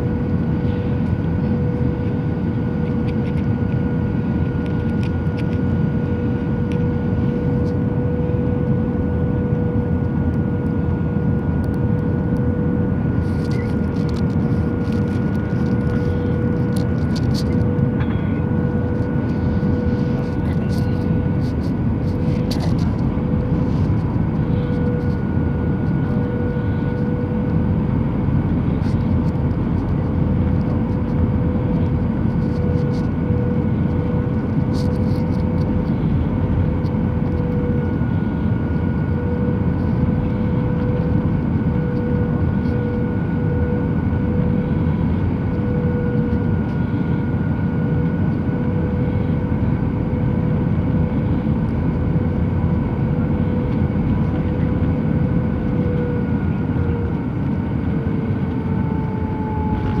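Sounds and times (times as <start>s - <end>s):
engine whine: 0.0s - 60.0s
jet engines roaring: 0.0s - 60.0s.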